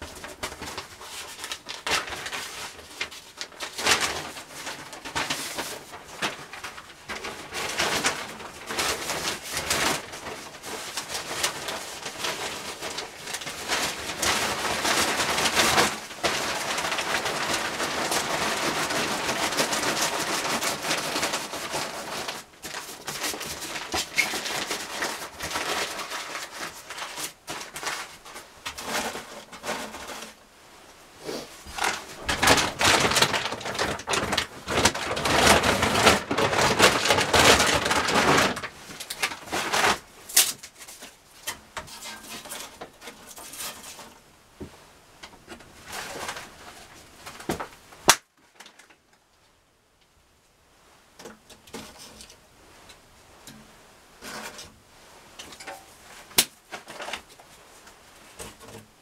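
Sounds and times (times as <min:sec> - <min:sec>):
newspaper crumpling and rustling: 0:00.0 - 0:30.4, 0:31.4 - 0:44.2, 0:45.3 - 0:49.1, 0:55.4 - 0:59.0.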